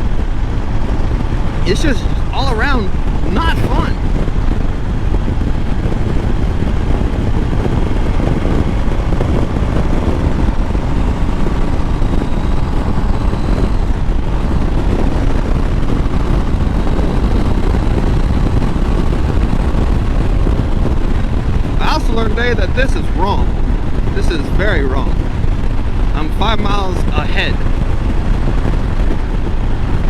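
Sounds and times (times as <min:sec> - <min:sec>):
motorcycle engine drone: 0:00.0 - 0:30.0
wind rush over microphone: 0:00.0 - 0:30.0.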